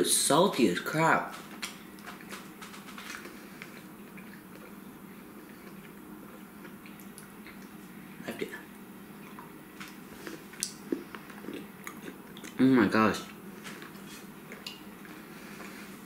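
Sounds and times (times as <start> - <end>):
low room hum: 0.0 - 16.0
chewing and mouth sounds: 1.3 - 15.9.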